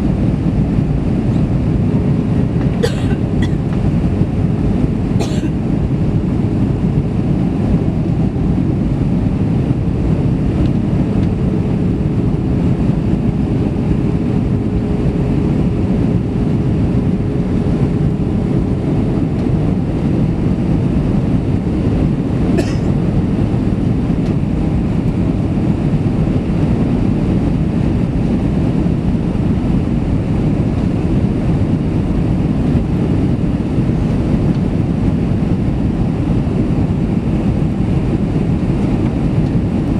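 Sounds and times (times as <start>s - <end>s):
aircraft engine and airflow rumble: 0.0s - 39.9s.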